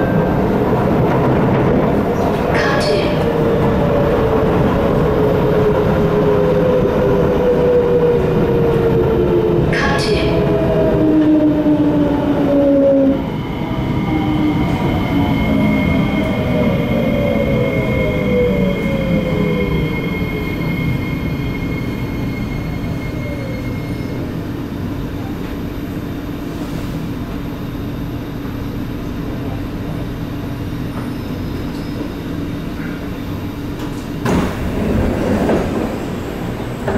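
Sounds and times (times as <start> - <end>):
standing train humming: 0.0 - 36.9.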